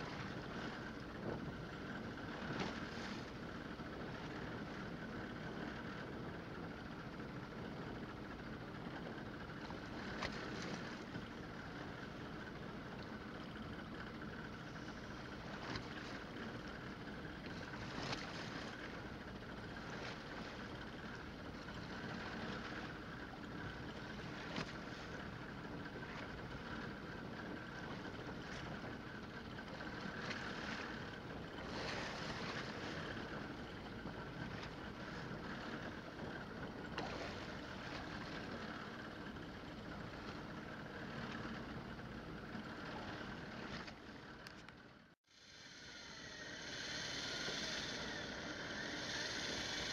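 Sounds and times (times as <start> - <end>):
water washing over hull: 0.0 - 44.6
boat running at sea: 0.0 - 49.9
wind: 0.0 - 49.9.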